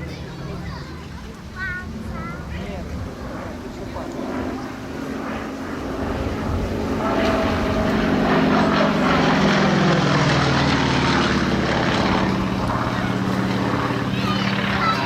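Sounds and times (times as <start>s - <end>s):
propeller aircraft engine passing: 0.0s - 15.0s.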